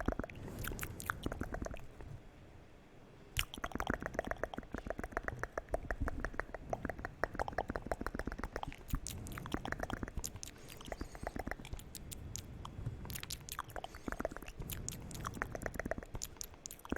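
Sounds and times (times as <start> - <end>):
tongue and lip clicks: 0.0 - 2.1, 3.4 - 16.9.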